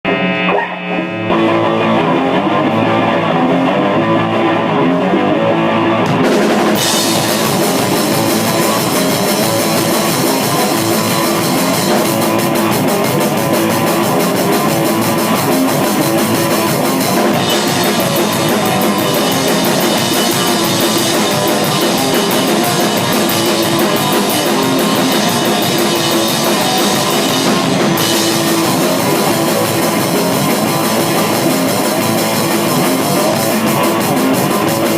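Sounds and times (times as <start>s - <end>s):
electric guitar: 0.0s - 34.9s
drum kit: 0.1s - 34.9s.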